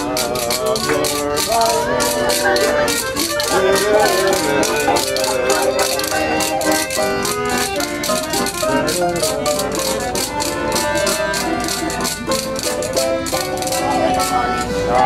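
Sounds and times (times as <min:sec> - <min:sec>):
fast rattling percussion beat: 0:00.0 - 0:14.8
accordion chords: 0:00.0 - 0:15.0
plucked strings: 0:00.0 - 0:15.0.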